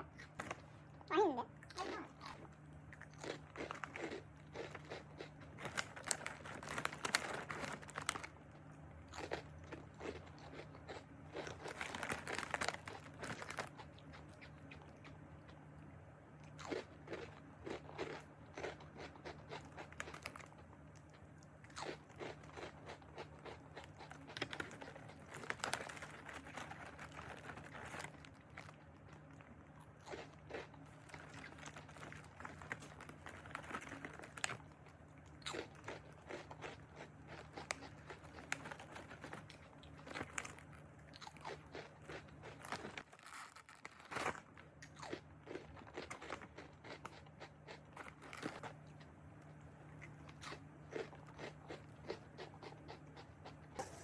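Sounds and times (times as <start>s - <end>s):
crunchy rice being chewed: 0.0s - 54.0s.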